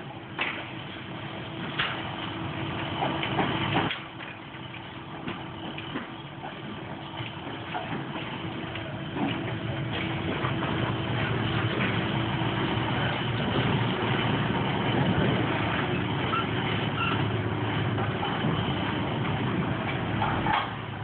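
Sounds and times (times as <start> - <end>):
large engine running: 0.0 - 21.0.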